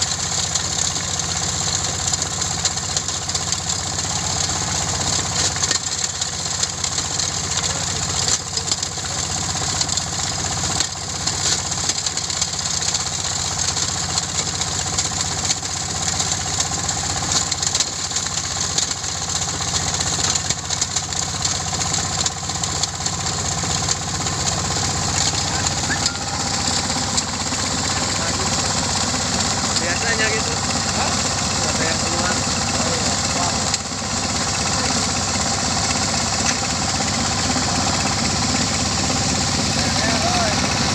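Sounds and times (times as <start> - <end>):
stone crusher rattling and grinding: 0.0 - 40.2
engine drone: 0.0 - 40.9.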